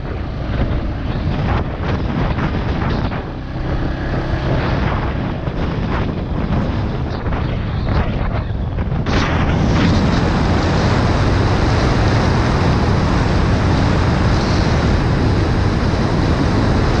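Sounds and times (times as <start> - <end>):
motorcycle engine drone: 0.0 - 17.0
wind noise on microphone: 0.0 - 17.0.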